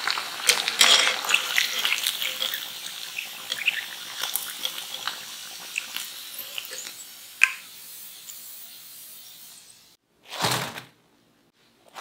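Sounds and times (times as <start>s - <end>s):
hot oil sizzling and crackling: 0.0s - 10.0s.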